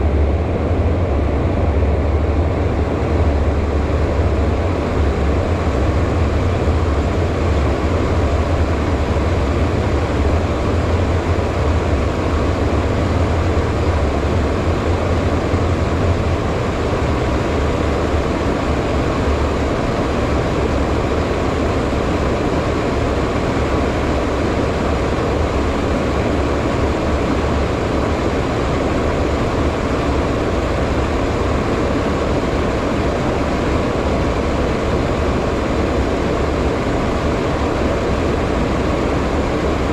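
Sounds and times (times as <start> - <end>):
jet engines humming: 0.0 - 39.9
rushing airflow: 0.0 - 39.9.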